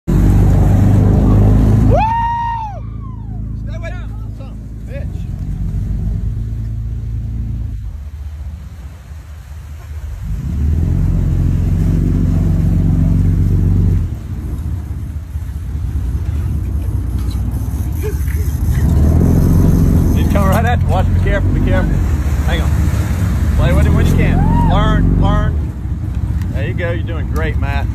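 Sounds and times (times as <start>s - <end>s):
boat engines running: 0.1s - 27.9s.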